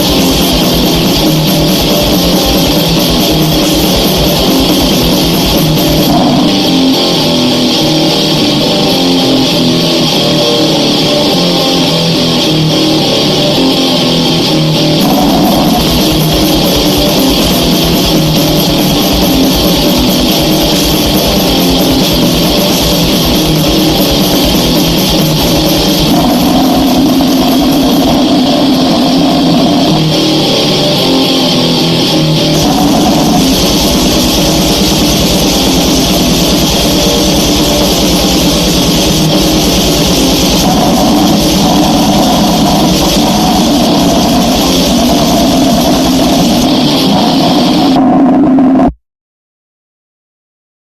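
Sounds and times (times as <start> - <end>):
fast dense drumming: 0.0 - 10.5, 14.6 - 30.4, 31.6 - 48.0
distorted electric guitar riffing: 0.0 - 49.0.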